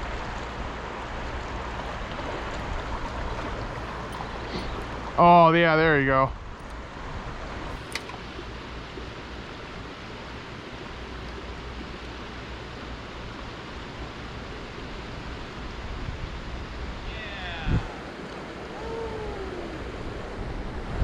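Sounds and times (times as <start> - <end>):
stream rushing and burbling: 0.0 - 21.0.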